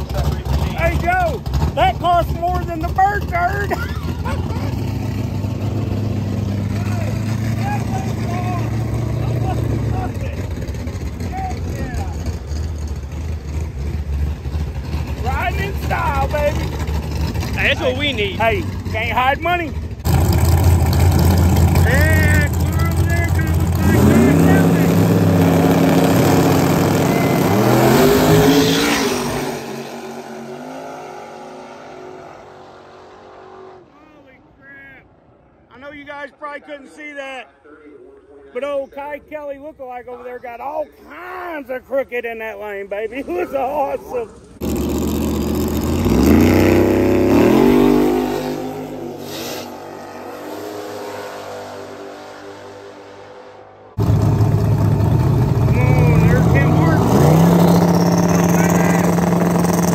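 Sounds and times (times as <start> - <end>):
drag cars launching at full throttle: 0.0 - 34.5, 43.6 - 59.9.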